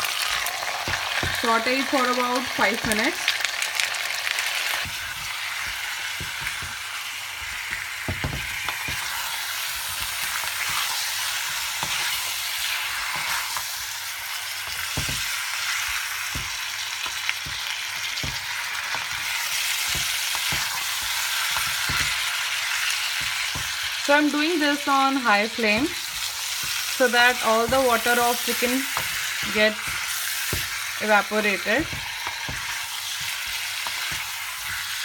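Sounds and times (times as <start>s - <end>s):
food sizzling in a wok: 0.0s - 35.0s
wooden spatula scraping pan: 4.6s - 35.0s.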